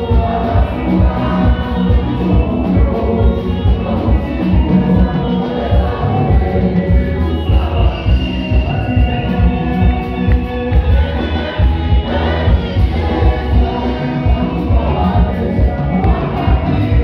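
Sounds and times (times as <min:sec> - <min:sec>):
gospel choir singing with band: 0:00.0 - 0:17.0
heavy pulsing bass beat: 0:00.0 - 0:17.0.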